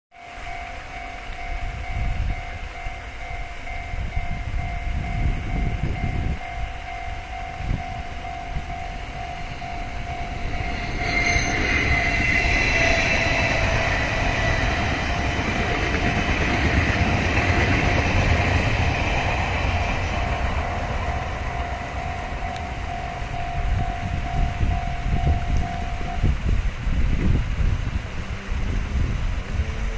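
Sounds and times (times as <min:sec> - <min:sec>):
aerators humming: 0:00.2 - 0:26.7
low rumble of wind: 0:00.2 - 0:29.9
passenger train passing: 0:00.2 - 0:29.9.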